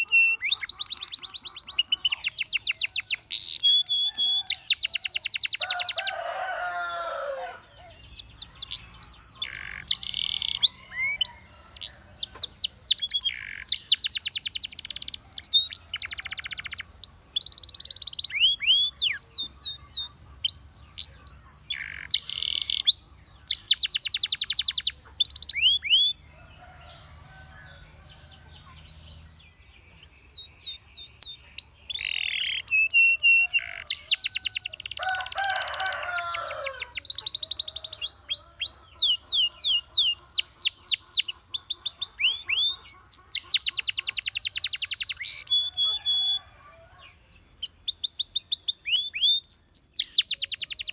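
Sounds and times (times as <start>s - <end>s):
canary singing: 0.0s - 50.9s.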